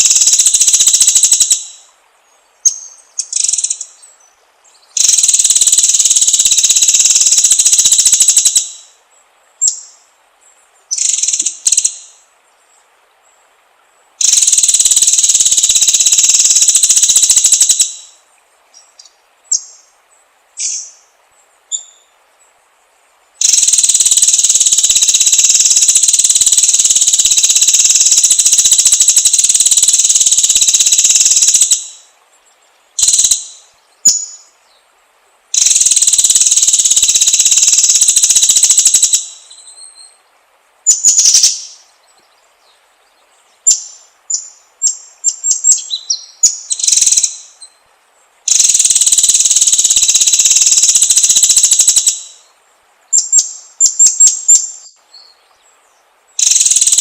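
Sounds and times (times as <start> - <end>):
bird singing buzzing trills: 0.0 - 9.0, 14.2 - 19.9, 20.6 - 22.2, 23.4 - 34.8, 35.6 - 40.2, 40.9 - 47.8, 48.5 - 52.5, 53.1 - 57.0.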